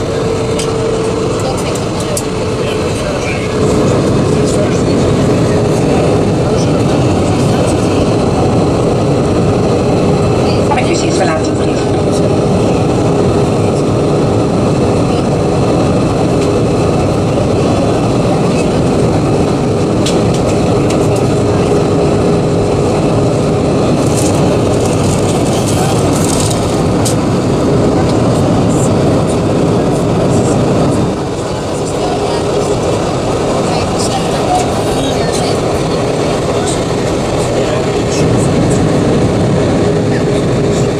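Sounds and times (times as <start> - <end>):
aircraft cabin engine roar: 0.0 - 40.9
constant hum tone: 0.0 - 40.9.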